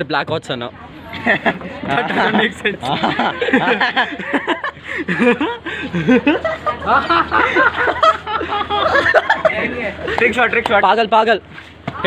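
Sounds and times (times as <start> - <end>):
men laughing and chattering: 0.9 - 12.0.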